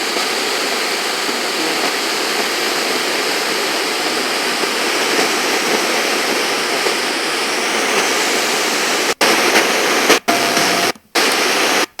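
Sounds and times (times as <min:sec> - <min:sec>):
faint radio tone: 0:00.0 - 0:11.9
radio static hissing: 0:00.0 - 0:12.0.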